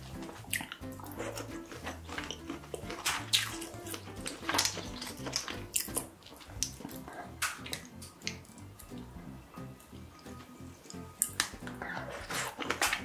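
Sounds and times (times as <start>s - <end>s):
background music with bass line: 0.0s - 13.0s
wet squelches of food pulled apart: 0.2s - 9.1s, 11.2s - 13.0s.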